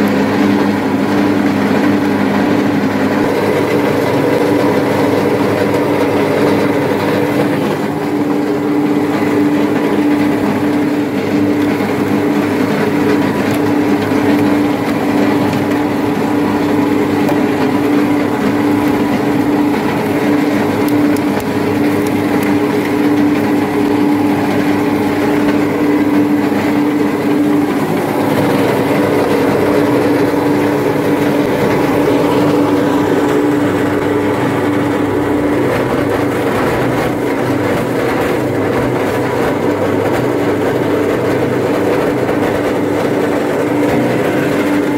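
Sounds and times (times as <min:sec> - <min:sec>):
plastic shredder humming: 0:00.0 - 0:44.9.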